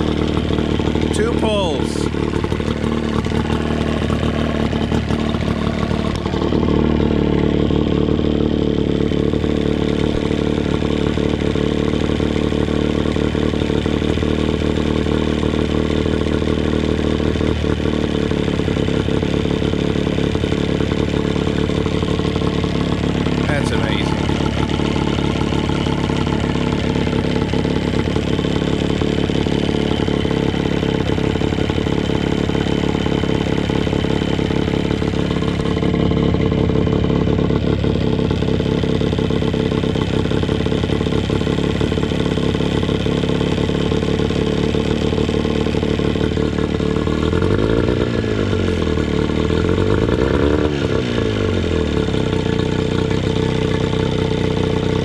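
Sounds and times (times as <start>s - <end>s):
outboard motor idling and revving: 0.0s - 55.0s.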